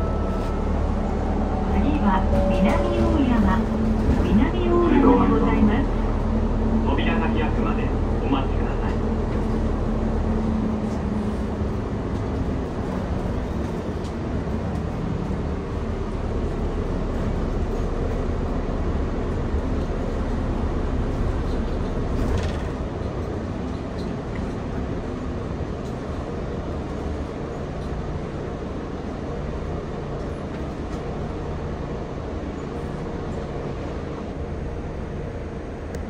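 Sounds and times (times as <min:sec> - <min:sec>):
bus engine hum: 0:00.0 - 0:36.0
road noise: 0:00.0 - 0:36.0.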